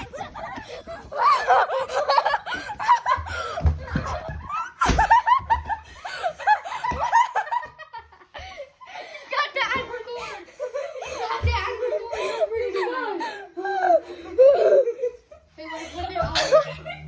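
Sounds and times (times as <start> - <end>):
boys laughing and shrieking: 0.0 - 17.0.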